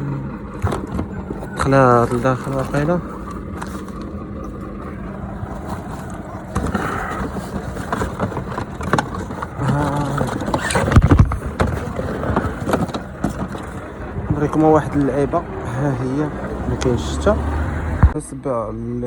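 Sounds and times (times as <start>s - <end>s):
handling knocks and rustles: 0.0s - 15.5s
car running from inside cabin: 0.0s - 18.2s.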